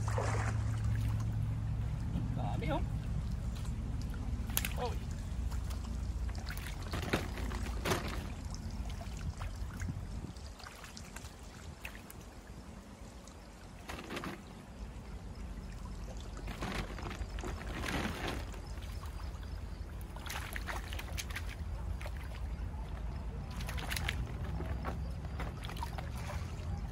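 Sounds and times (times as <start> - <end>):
shallow stream flowing: 0.0 - 26.9
water splashing and sloshing: 0.0 - 26.9.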